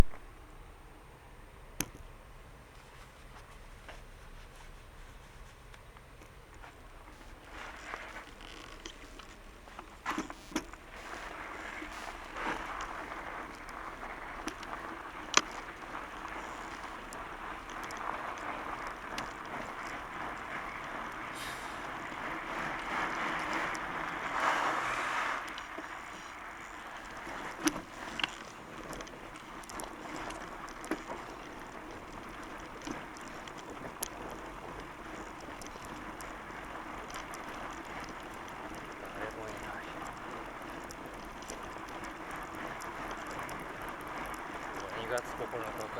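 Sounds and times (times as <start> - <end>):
bike tyres rolling: 0.0 - 0.5, 1.5 - 45.9.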